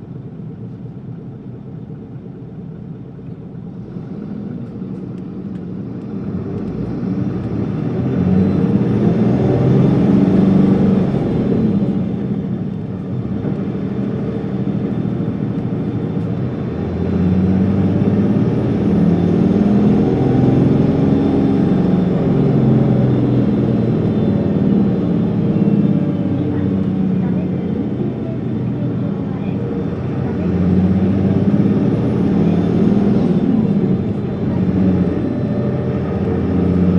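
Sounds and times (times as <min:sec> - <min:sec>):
bus diesel engine revving: 0:03.6 - 0:36.9.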